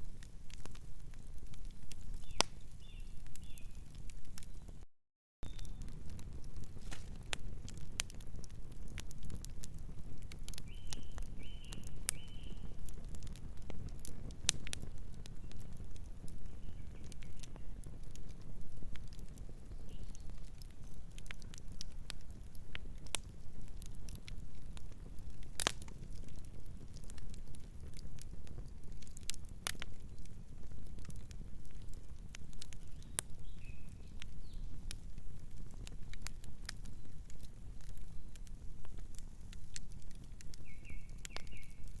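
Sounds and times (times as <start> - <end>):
wood fire crackling: 0.0 - 4.8, 5.4 - 42.0.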